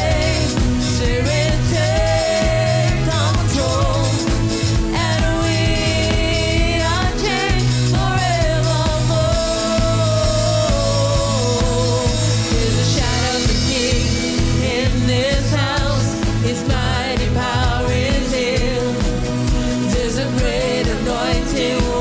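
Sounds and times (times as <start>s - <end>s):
steady bass line: 0.0s - 22.0s
wavering vocal melody: 0.0s - 22.0s
worship band music: 0.0s - 22.0s.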